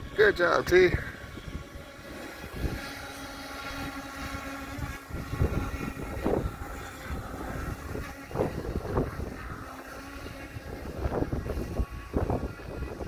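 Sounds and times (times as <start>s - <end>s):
model speedboat motor: 0.0s - 13.0s
wind gusts on microphone: 0.0s - 13.0s.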